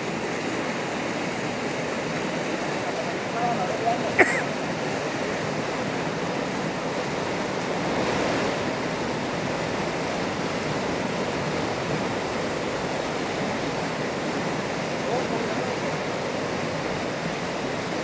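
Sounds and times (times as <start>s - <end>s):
fast-flowing water rushing: 0.0s - 18.0s.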